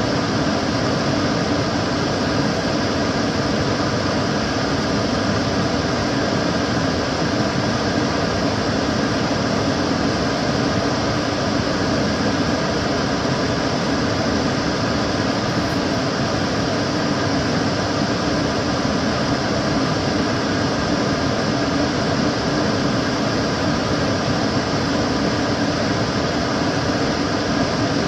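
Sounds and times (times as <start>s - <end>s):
extractor fan running: 0.0s - 28.0s.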